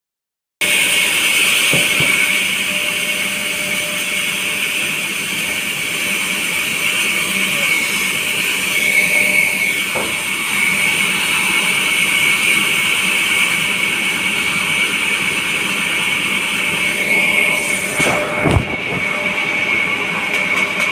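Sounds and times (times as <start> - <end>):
band saw whirring: 0.6 - 20.9.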